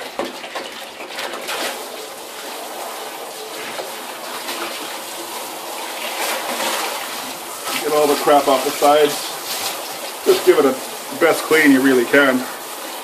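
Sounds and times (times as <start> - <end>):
hose spraying water in tank: 0.0 - 13.0.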